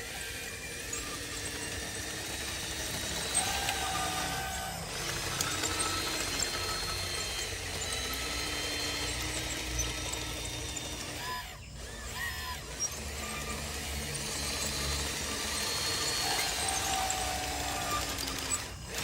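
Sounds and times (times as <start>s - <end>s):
electric motors whining: 0.0s - 19.0s
small clicks: 0.9s - 19.0s.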